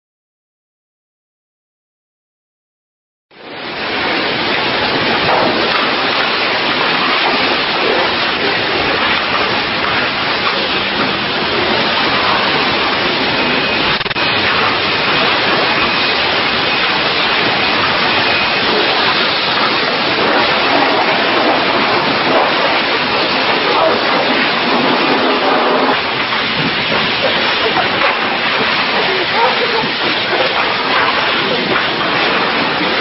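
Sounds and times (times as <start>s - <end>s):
pressure washer spraying water: 3.5s - 33.0s.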